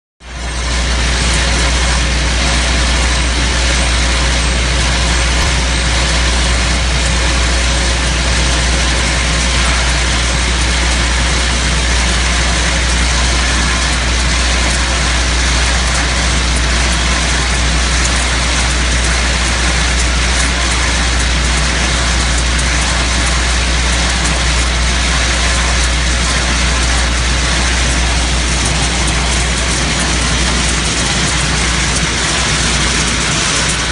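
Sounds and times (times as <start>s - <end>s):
sorting machine humming and rattling: 0.3s - 33.9s.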